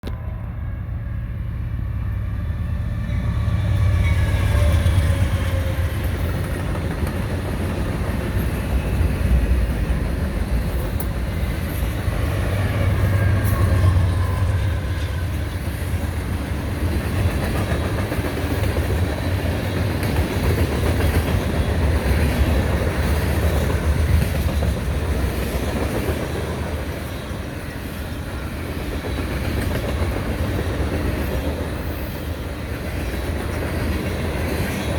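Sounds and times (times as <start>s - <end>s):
diesel locomotive engine rumble: 0.0s - 34.9s
train rolling on rails: 0.0s - 34.9s.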